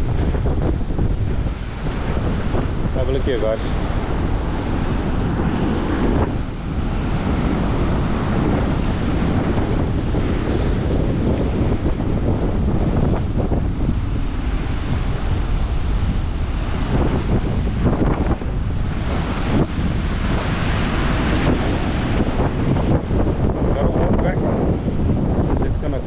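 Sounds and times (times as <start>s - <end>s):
rough surf breaking: 0.0s - 26.0s
wind buffeting microphone: 0.0s - 26.0s.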